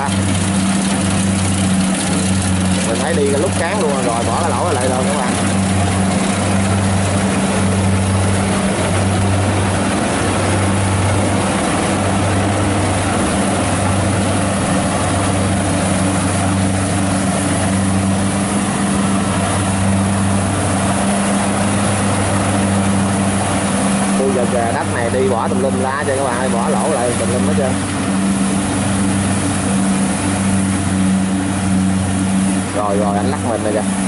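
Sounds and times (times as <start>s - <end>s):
diesel engine humming: 0.0s - 34.0s
machine rushing noise: 0.0s - 34.0s.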